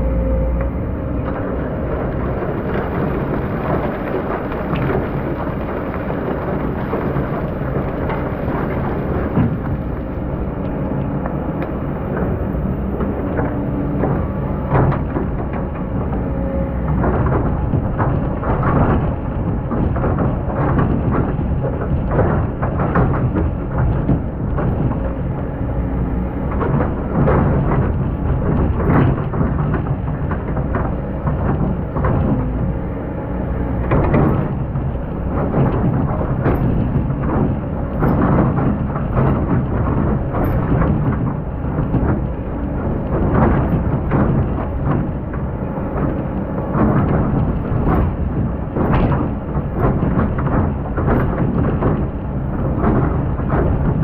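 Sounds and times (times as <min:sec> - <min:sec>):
excavator engine rumbling: 0:00.0 - 0:54.0.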